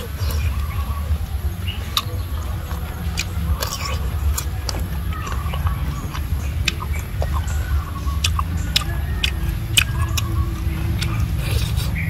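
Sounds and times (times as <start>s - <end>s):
low rumble: 0.0s - 12.0s
person chewing food: 0.0s - 12.0s.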